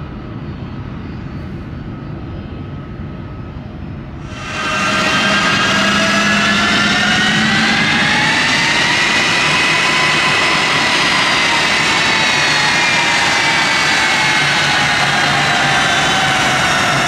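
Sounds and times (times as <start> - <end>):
jet engines taxiing: 0.0 - 17.0.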